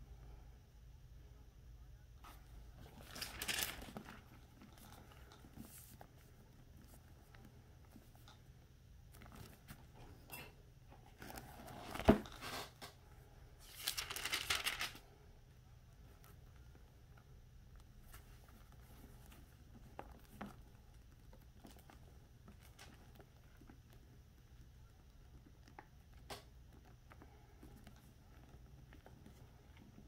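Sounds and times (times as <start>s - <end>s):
rustling and crinkling: 2.2s - 30.0s.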